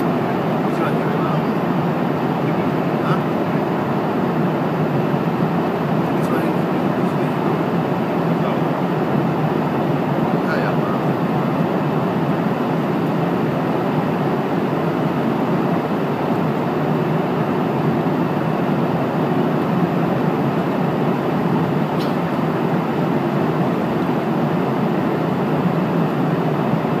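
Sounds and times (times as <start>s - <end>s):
airliner cabin engine rush: 0.0s - 27.0s.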